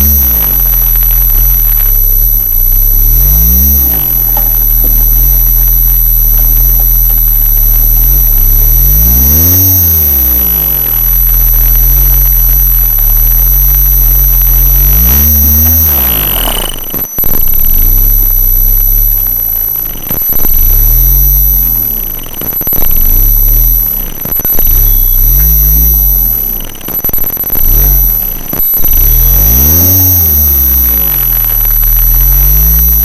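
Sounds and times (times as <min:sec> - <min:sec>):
high-pitched whines: 0:00.0 - 0:33.0
sweeping whining tones: 0:00.0 - 0:33.0.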